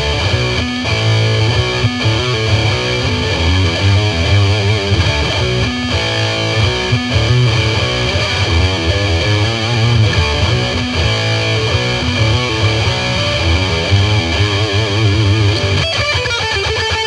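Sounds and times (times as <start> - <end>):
steady low bass: 0.0 - 15.8
distorted electric guitar: 0.0 - 17.0.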